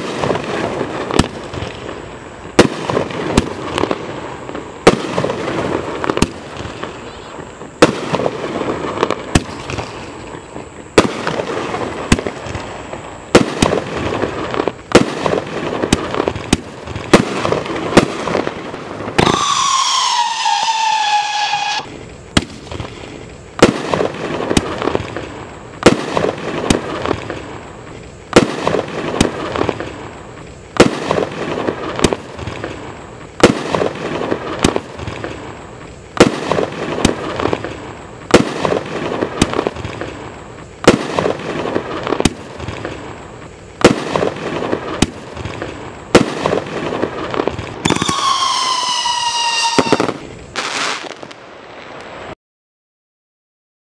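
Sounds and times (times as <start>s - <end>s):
firework bangs with crackle: 0.0s - 52.4s
falling firework whistle: 2.5s - 52.4s.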